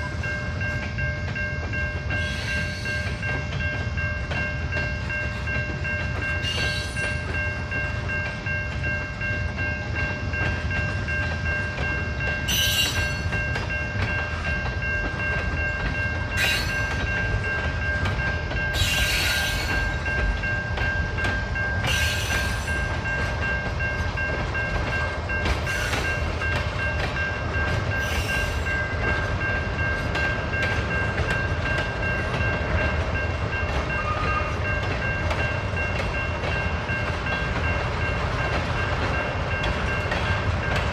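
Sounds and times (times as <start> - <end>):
train car screeches and clanks: 0.0 - 40.9
train wheels rumbling on rail: 0.0 - 40.9.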